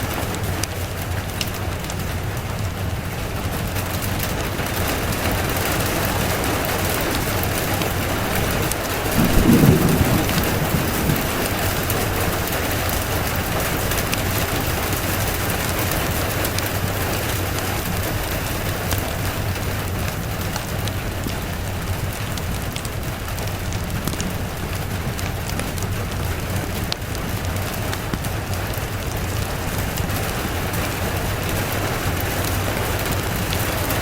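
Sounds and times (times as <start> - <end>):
steady rain: 0.0 - 34.0
wood fire crackling: 0.0 - 34.0
thunder rumble: 3.6 - 34.0.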